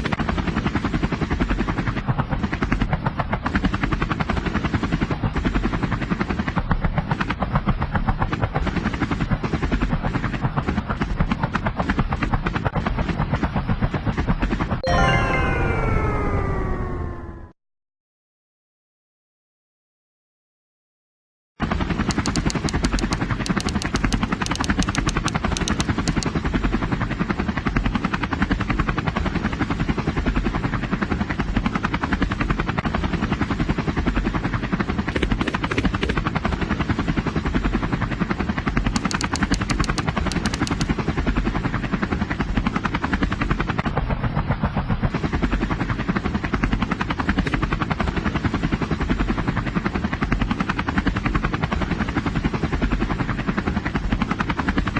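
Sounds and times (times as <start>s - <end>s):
helicopter rotor chopping: 0.0s - 14.8s, 21.6s - 54.9s.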